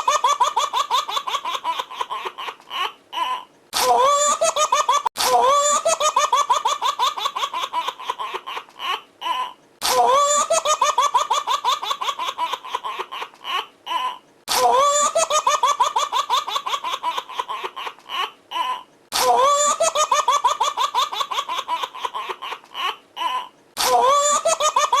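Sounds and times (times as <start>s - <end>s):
baby laughing: 0.0s - 25.0s.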